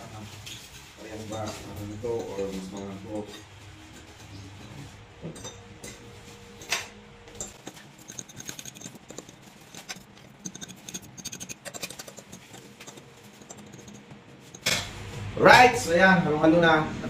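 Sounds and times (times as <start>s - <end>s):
forks scraping and clinking on plate: 0.4s - 14.9s.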